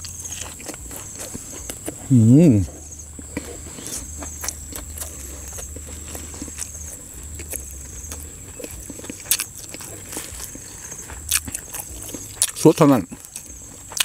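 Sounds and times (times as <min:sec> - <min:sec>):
chewing raw vegetables: 0:00.0 - 0:14.0.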